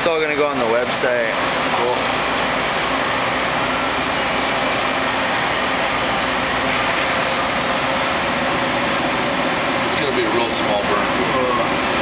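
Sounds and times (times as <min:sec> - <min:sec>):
machine mechanical hum and hiss: 0:00.0 - 0:12.0.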